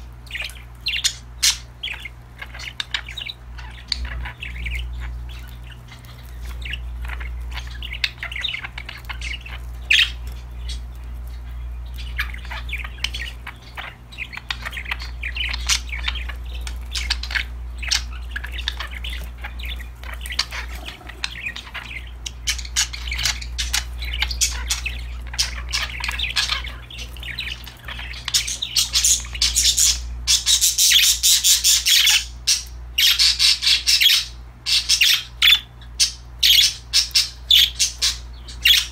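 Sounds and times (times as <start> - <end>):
budgerigars chirping: 0.0 - 38.9
steady low hum: 0.0 - 38.9.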